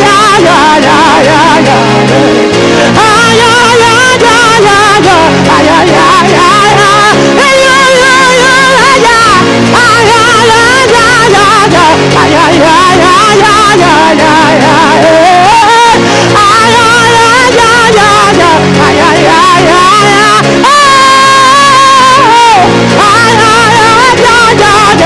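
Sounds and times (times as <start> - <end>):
person singing ornamented melody: 0.0 - 25.0
sustained accompanying chords: 0.0 - 25.0.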